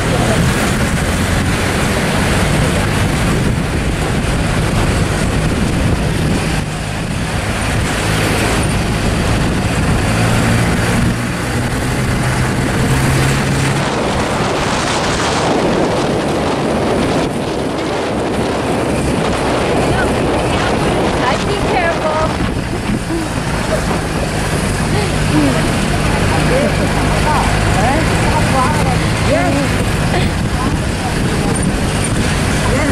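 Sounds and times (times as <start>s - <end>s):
truck engine hum: 0.0s - 32.9s
wind noise on microphone: 0.0s - 32.9s.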